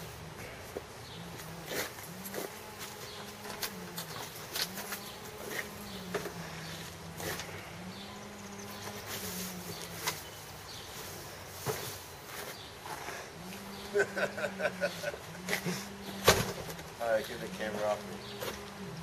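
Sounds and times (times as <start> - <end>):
low buzzing hum: 0.0 - 19.0.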